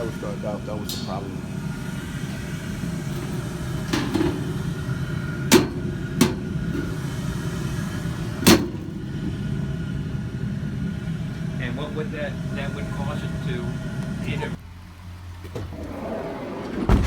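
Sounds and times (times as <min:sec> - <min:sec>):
furnace blower fan humming: 0:00.0 - 0:15.3.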